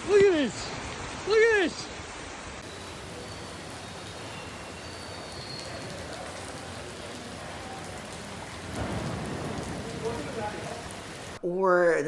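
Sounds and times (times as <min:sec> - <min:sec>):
heavy falling water: 0:00.0 - 0:11.4.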